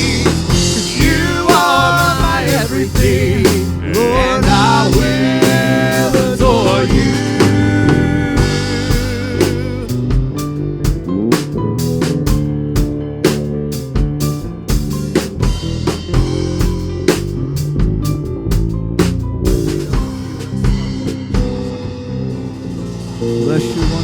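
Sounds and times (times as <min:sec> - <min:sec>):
sustained chords: 0:00.0 - 0:13.6, 0:16.0 - 0:24.0
drum kit beat: 0:00.0 - 0:24.0
guitar: 0:00.0 - 0:24.0.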